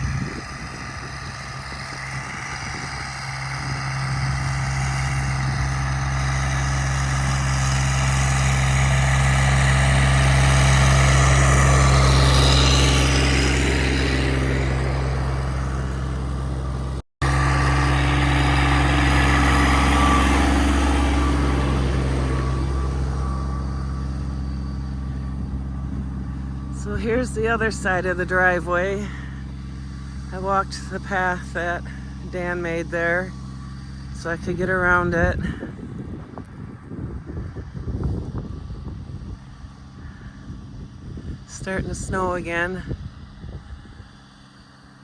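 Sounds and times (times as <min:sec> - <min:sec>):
engine running with deep hum: 0:00.0 - 0:45.0.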